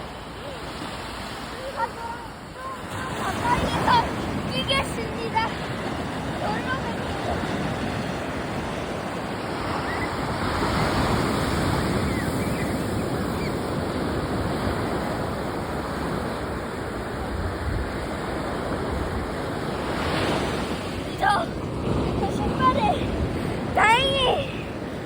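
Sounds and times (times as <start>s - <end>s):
sea waves rushing surf: 0.0s - 25.0s.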